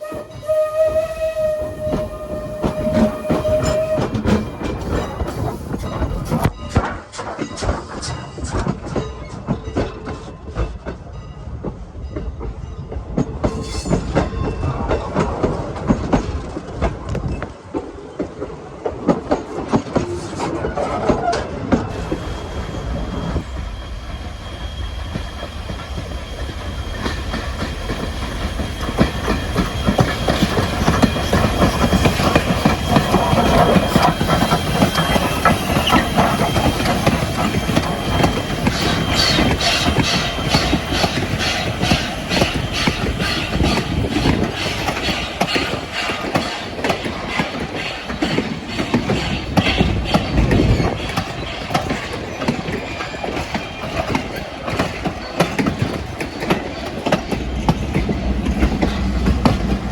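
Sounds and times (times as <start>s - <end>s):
train wheels clattering over rail joints: 1.8s - 59.9s.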